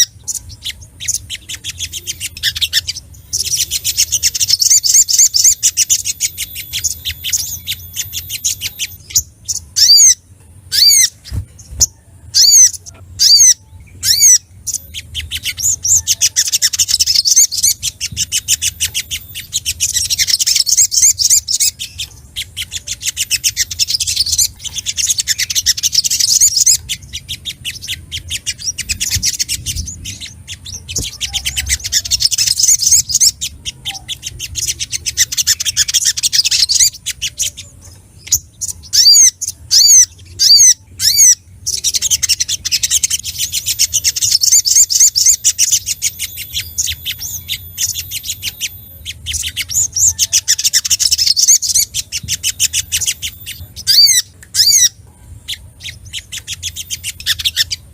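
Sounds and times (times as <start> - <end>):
sharp down-slurred bird notes: 0.0 - 57.9
songbird chattering trills: 0.0 - 57.9.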